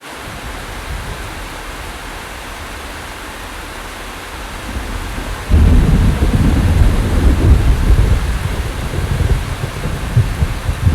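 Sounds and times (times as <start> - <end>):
steady rain hissing: 0.0 - 10.9
rolling thunder: 0.3 - 10.9.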